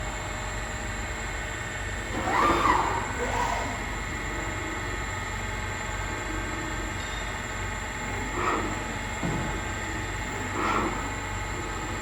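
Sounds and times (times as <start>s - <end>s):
milling machine hum: 0.0s - 12.0s.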